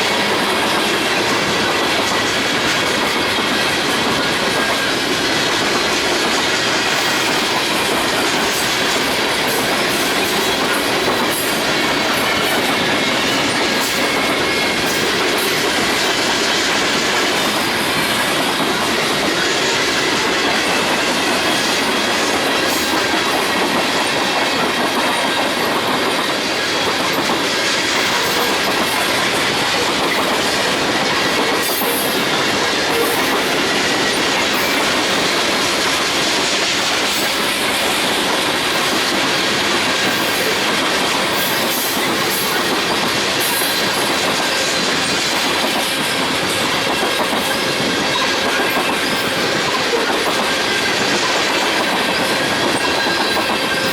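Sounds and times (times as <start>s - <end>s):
train wheels on rails: 0.0s - 53.9s.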